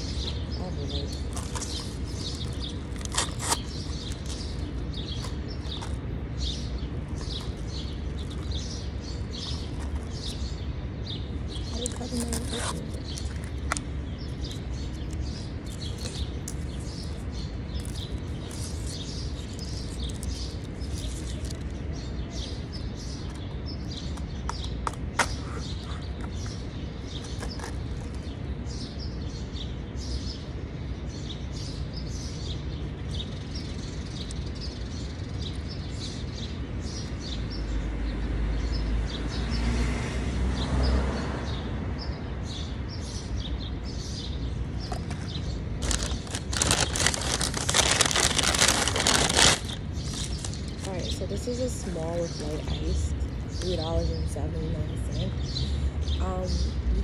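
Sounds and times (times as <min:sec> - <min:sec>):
low street hum: 0:00.0 - 0:57.0
small birds chirping: 0:00.0 - 0:57.0.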